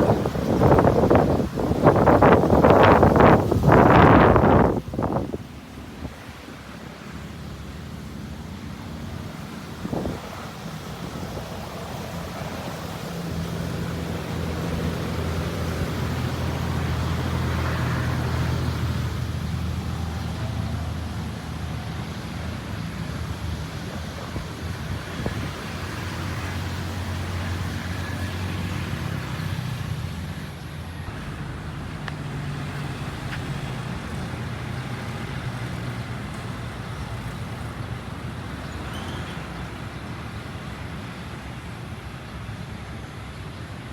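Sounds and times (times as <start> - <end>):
vehicle engines in traffic: 0.0 - 43.9.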